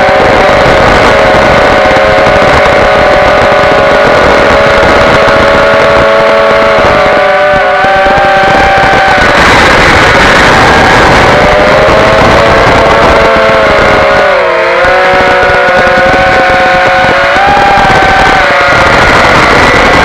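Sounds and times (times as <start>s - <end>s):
quadcopter propellers whining: 0.0s - 20.0s.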